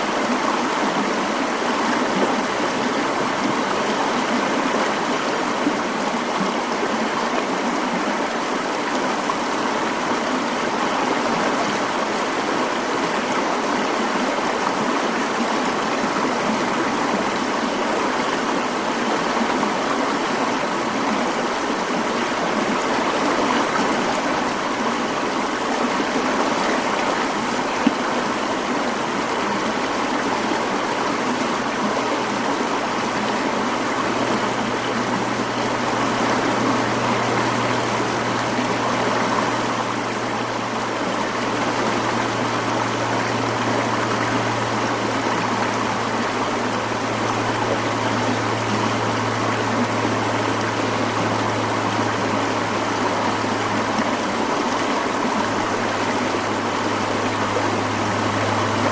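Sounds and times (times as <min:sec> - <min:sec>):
mountain stream flowing: 0:00.0 - 0:58.9.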